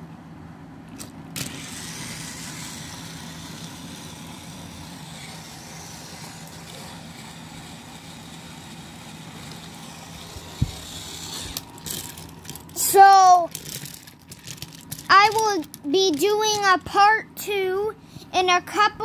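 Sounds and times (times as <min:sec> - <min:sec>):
toy train motor whir: 0:01.4 - 0:16.7.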